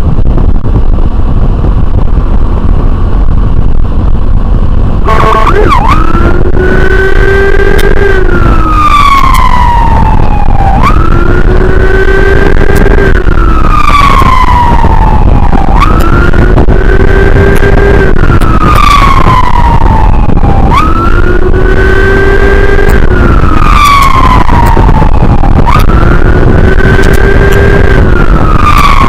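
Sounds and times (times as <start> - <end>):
wind and road noise: 0.0 - 29.0
emergency siren wailing: 2.5 - 29.0.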